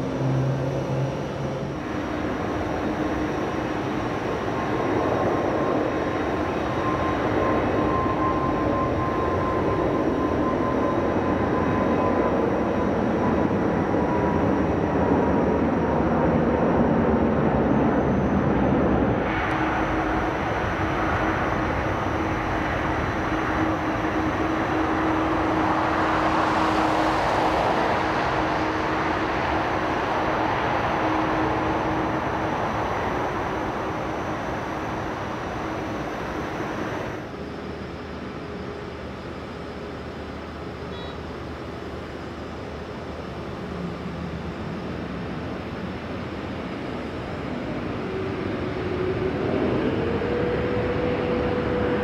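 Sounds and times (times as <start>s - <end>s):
airliner climbing rumble: 0.0s - 52.0s
jet engines humming on ground: 0.0s - 52.0s.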